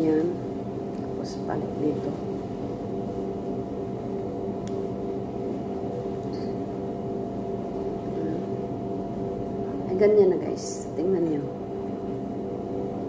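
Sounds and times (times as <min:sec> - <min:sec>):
ventilation hum: 0:00.0 - 0:13.0.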